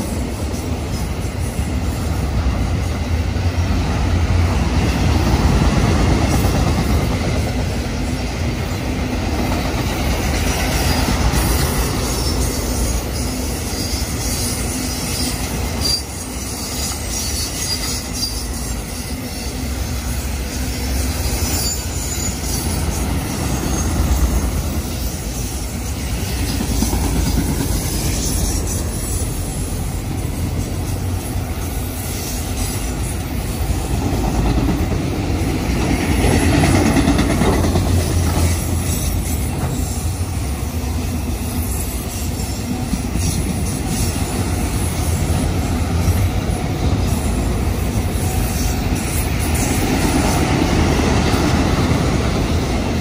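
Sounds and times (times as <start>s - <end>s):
train rumbling past on rails: 0.0s - 53.0s.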